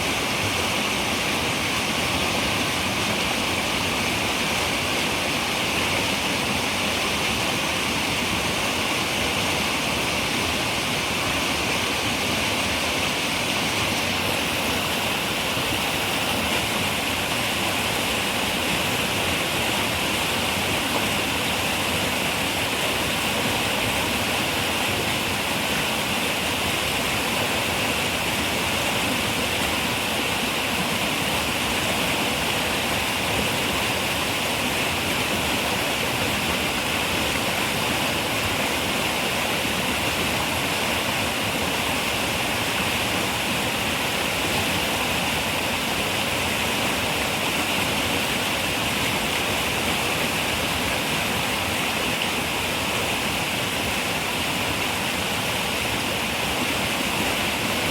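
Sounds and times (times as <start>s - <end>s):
river water over rocks: 0.0s - 57.9s.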